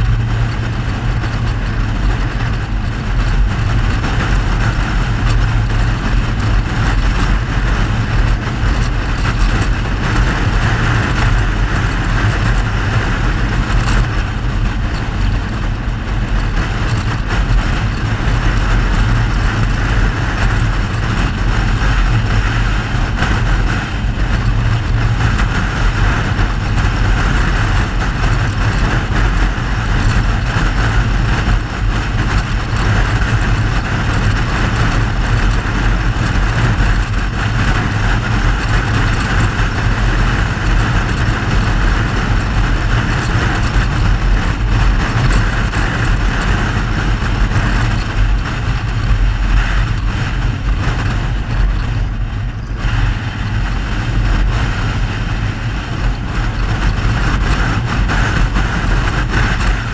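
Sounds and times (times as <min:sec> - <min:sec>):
car engine drone: 0:00.0 - 0:59.9
road and wind noise: 0:00.0 - 0:59.9.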